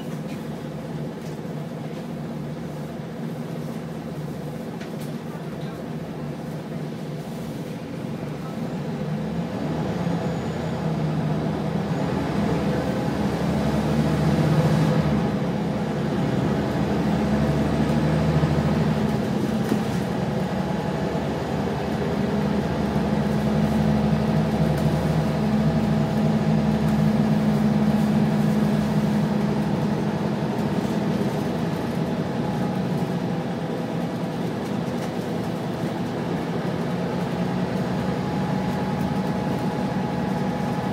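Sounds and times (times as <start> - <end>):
bus engine under load: 0.0 - 40.9.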